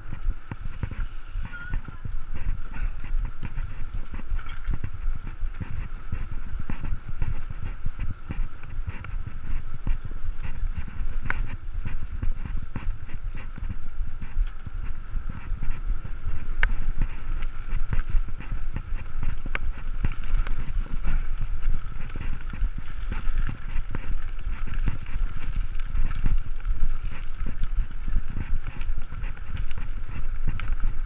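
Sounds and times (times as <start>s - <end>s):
mountain bike rattling: 0.0s - 31.0s
wind: 0.0s - 31.0s.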